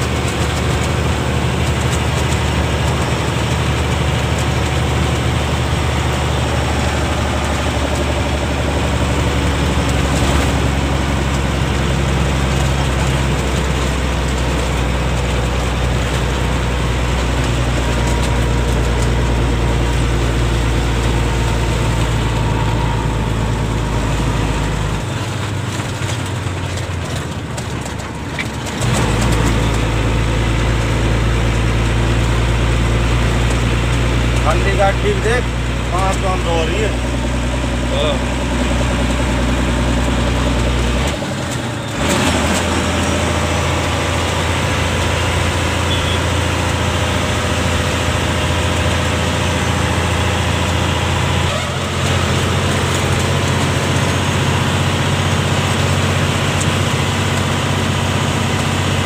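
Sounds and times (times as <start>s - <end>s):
road and cab noise: 0.0s - 59.0s
truck diesel engine running: 0.0s - 59.0s.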